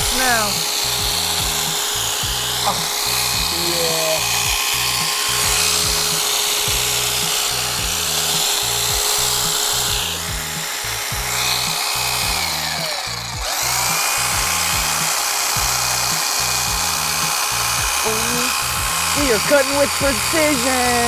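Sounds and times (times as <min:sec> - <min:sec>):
hedge trimmer whining: 0:00.0 - 0:21.0
music with bass beat: 0:00.0 - 0:21.0.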